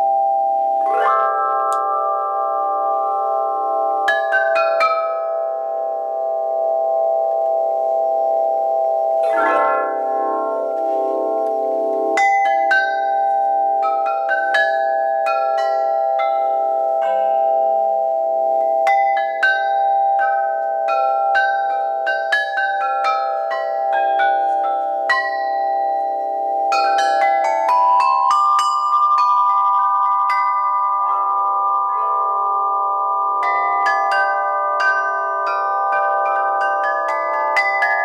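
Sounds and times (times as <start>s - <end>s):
ringing hum from tubes: 0.0s - 38.0s
struck metal tube notes: 0.0s - 38.0s.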